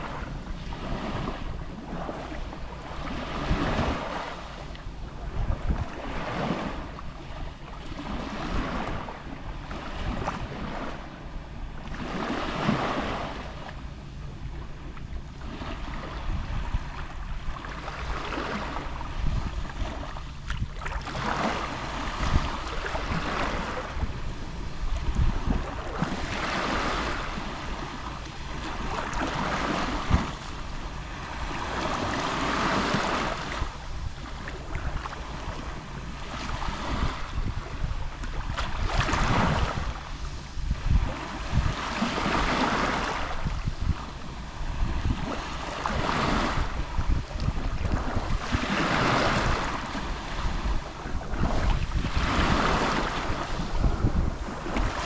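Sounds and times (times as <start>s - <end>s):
steady low rumble: 0.0s - 48.7s, 49.3s - 55.0s
sea waves lapping on shore: 0.0s - 55.0s.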